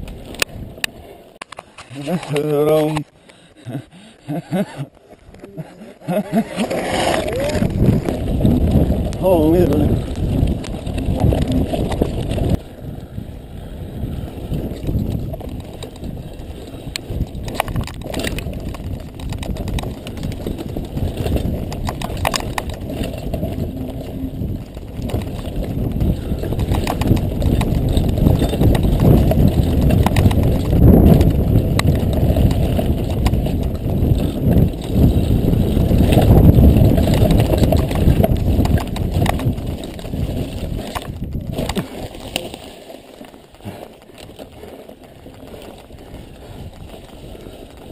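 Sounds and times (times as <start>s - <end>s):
mountain bike rattling downhill: 0.0s - 47.9s
tyres rumbling over rough ground: 3.7s - 47.9s.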